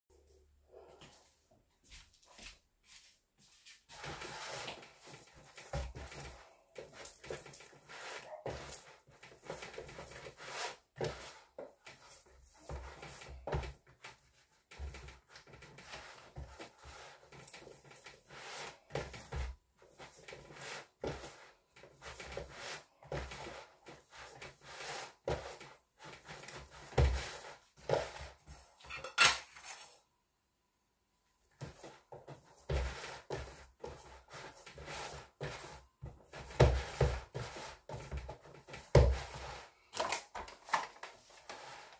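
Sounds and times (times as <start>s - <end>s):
dough kneaded in plastic bowl: 2.6s - 28.9s, 31.3s - 41.9s.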